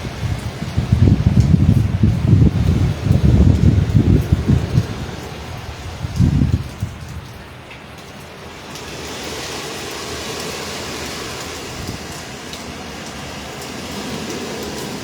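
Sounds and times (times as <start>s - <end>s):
strong wind blowing: 0.0s - 7.7s, 8.4s - 15.0s
rain: 0.0s - 15.0s.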